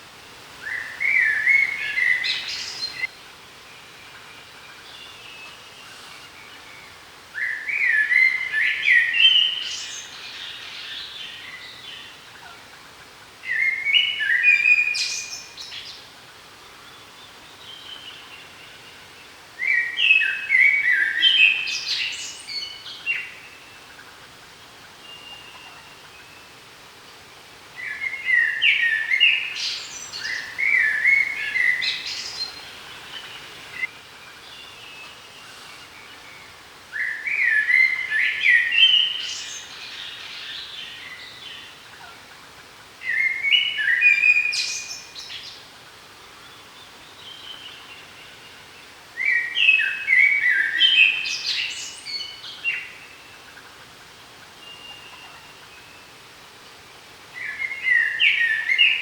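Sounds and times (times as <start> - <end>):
songbird singing: 0.0 - 12.8, 13.4 - 59.0
steady background hiss: 0.0 - 59.0.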